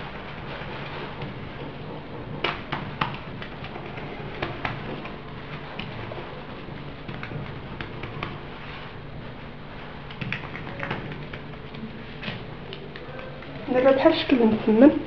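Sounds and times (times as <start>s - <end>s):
fingertips patting dough: 0.0s - 14.9s
steady low hum: 0.0s - 15.0s.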